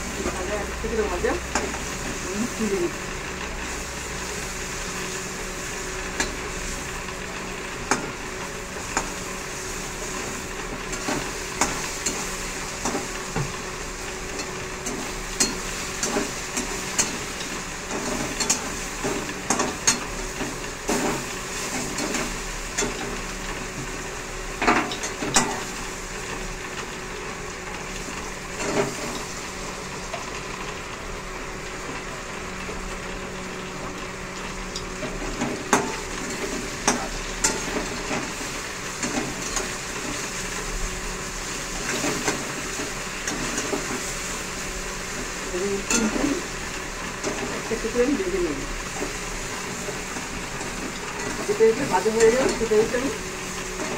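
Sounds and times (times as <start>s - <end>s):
chicken sizzling in oil: 0.0s - 53.9s.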